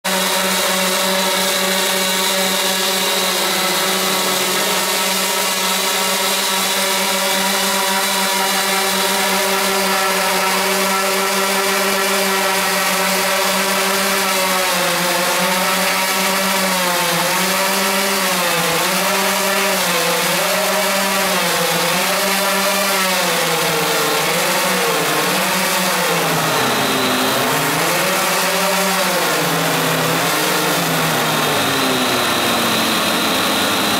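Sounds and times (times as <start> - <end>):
model aircraft engines droning: 0.0 - 33.9.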